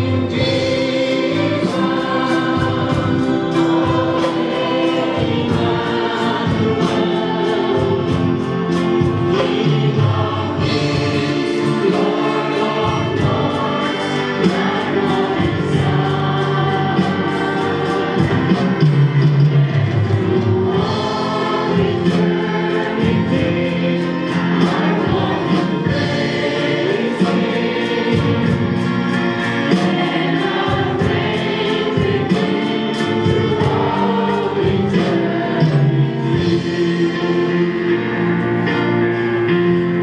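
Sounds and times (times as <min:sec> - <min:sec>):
choir singing gospel song: 0:00.0 - 0:40.0
instrumental accompaniment with beat: 0:00.0 - 0:40.0.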